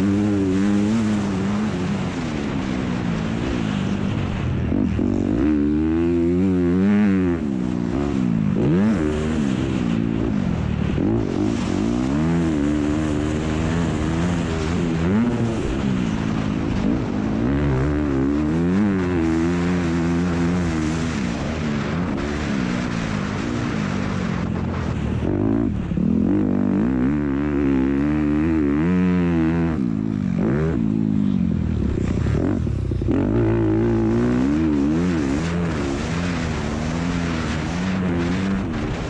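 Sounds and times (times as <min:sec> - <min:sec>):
motocross bike engine revving: 0:00.0 - 0:39.0.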